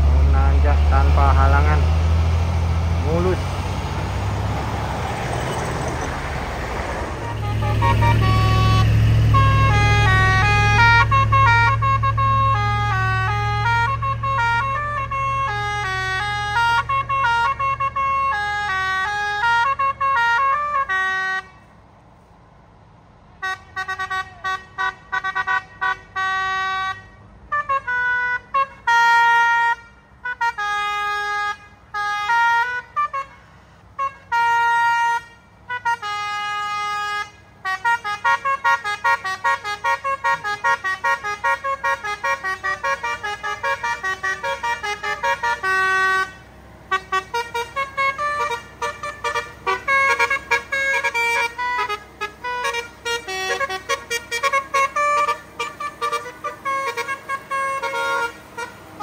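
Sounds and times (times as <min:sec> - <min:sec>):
truck musical horn playing a tune: 0:00.0 - 0:21.8, 0:23.4 - 0:59.0.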